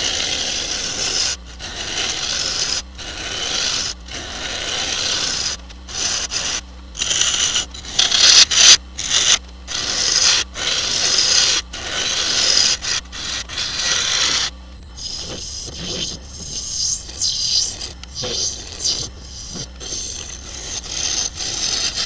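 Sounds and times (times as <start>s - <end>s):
gouge scraping wood on lathe: 0.0s - 22.0s.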